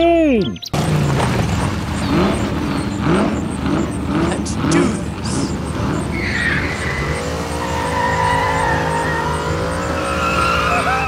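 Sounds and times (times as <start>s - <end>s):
car engine running: 0.0s - 11.0s
tyres squealing: 0.4s - 11.0s.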